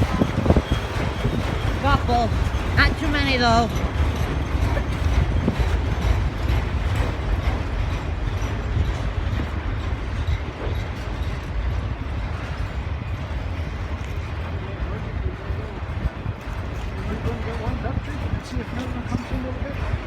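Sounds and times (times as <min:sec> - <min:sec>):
freight train cars rolling: 0:00.0 - 0:20.0
wheels clicking on rails: 0:00.0 - 0:20.0.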